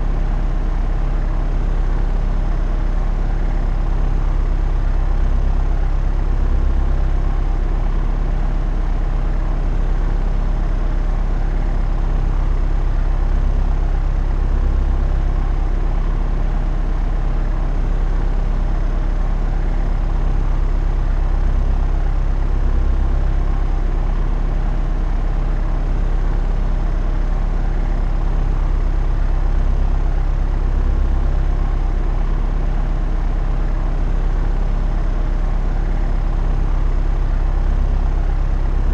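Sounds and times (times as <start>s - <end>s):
propeller airplane drone: 0.0s - 38.9s.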